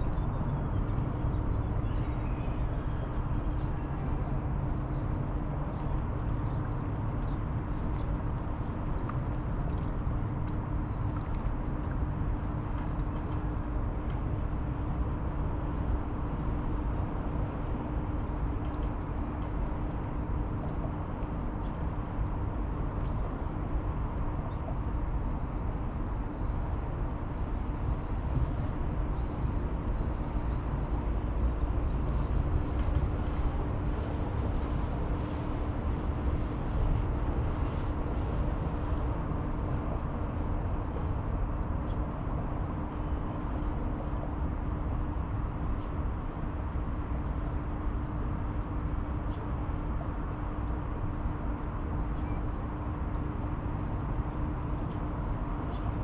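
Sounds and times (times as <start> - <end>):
constant hum: 0.0 - 56.0.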